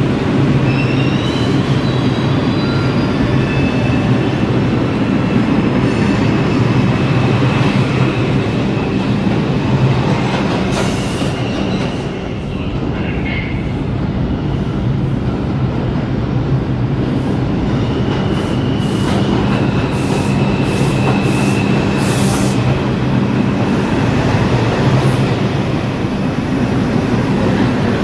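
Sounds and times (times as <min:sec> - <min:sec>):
subway train rumbling to a stop: 0:00.0 - 0:28.0.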